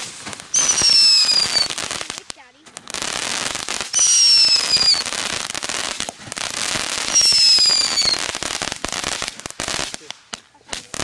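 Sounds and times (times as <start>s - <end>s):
firework spraying sparks: 0.0s - 11.0s.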